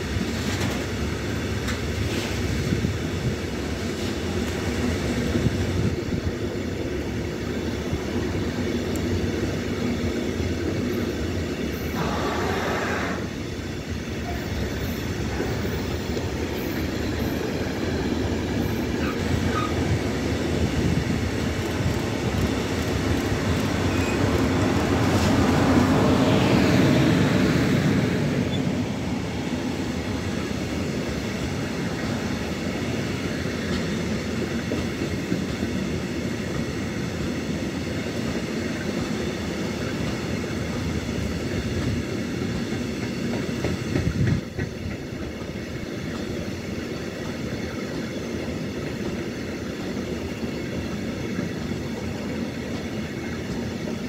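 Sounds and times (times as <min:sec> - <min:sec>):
electric locomotive passing: 0:00.0 - 0:54.0
train wheels rumbling and clattering: 0:00.0 - 0:54.0.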